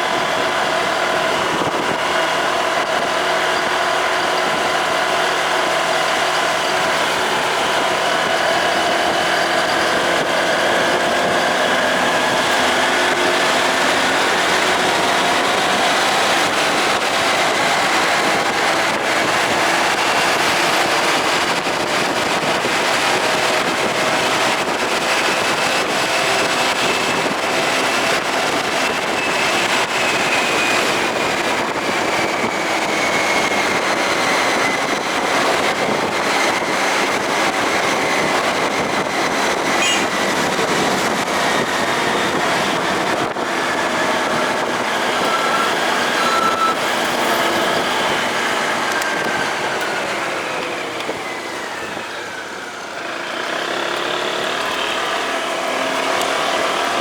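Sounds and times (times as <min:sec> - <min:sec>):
wind on microphone: 0:00.0 - 0:52.8
motorcycle engine running: 0:00.0 - 0:57.0
road noise: 0:00.0 - 0:57.0.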